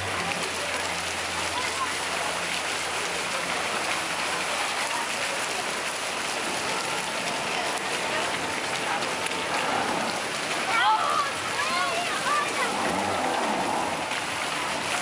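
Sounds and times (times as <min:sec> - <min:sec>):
rush of churning water: 0:00.0 - 0:15.0.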